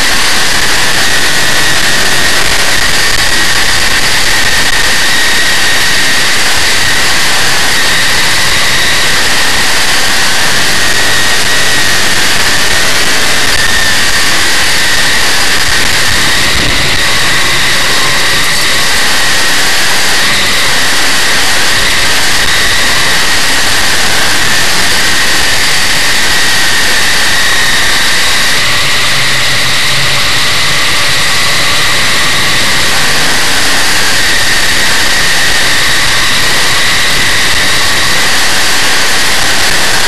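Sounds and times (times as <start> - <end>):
race car engine running hard: 0.0 - 40.0.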